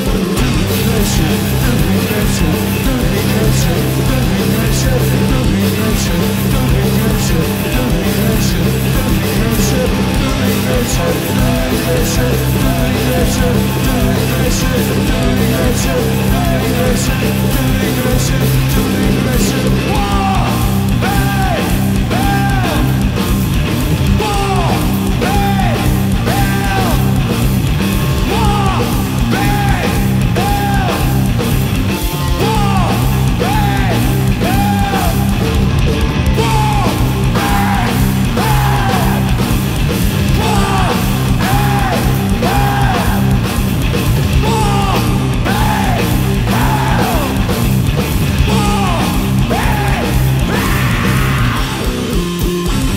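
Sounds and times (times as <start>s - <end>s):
distorted electric guitar: 0.0s - 52.9s
drum kit with crashing cymbals: 0.0s - 52.9s.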